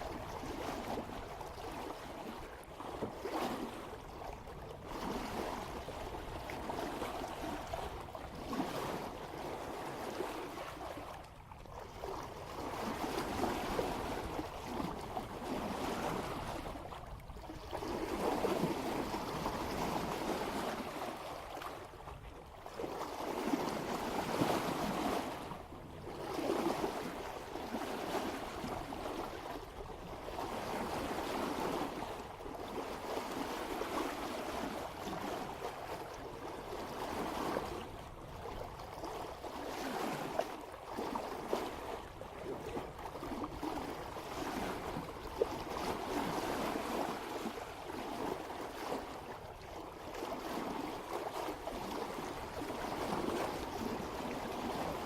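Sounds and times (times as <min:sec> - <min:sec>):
water splashing along boat bow: 0:00.0 - 0:55.0.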